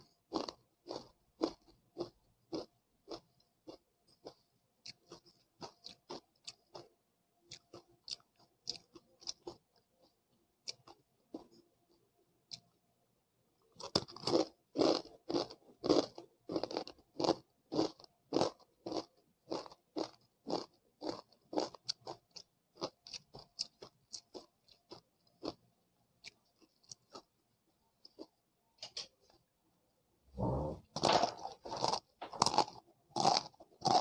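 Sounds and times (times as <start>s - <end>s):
crunchy snack chewing: 0.2s - 6.9s, 7.5s - 11.6s, 13.7s - 27.4s, 28.0s - 29.4s, 30.4s - 34.0s.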